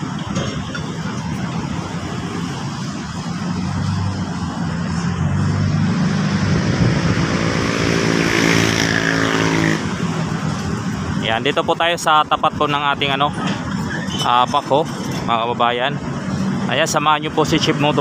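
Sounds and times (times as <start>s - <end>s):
steady outdoor rush: 0.0s - 18.0s.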